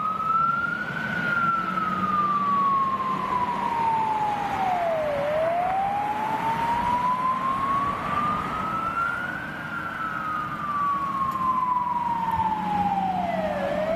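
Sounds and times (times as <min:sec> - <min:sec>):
fire engine wail siren: 0:00.0 - 0:13.9.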